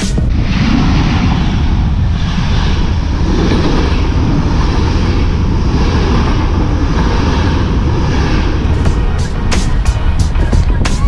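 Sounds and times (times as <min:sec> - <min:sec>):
train rumbling over bridge: 0:00.0 - 0:11.0.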